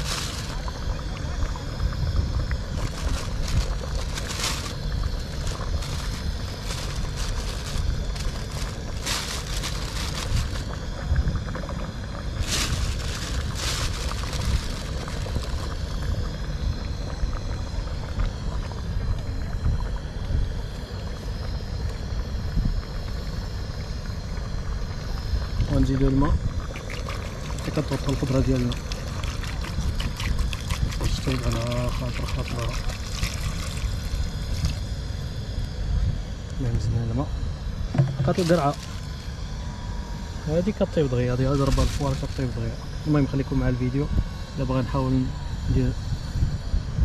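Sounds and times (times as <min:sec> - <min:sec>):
wind rumble on microphone: 0:00.0 - 0:39.0, 0:41.4 - 0:47.0.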